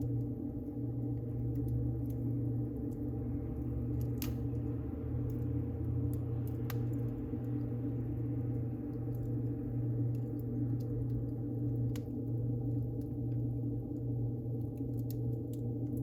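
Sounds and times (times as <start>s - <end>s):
wood fire burning: 0.0s - 16.0s.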